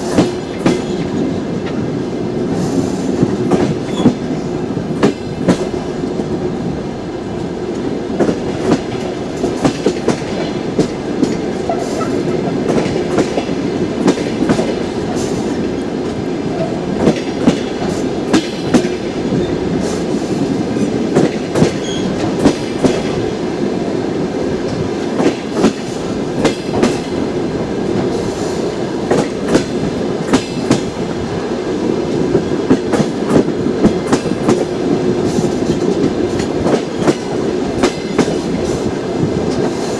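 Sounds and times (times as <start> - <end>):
train wheels clacking over rail joints: 0.0 - 6.3, 7.4 - 23.4, 24.7 - 27.3, 27.9 - 31.5, 32.1 - 39.9
train rolling rumble: 0.0 - 39.9.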